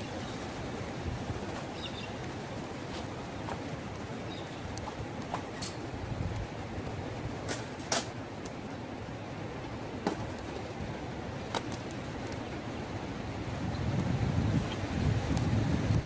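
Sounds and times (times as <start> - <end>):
campfire crackling: 0.0 - 16.0
wind rumbling: 0.0 - 16.0.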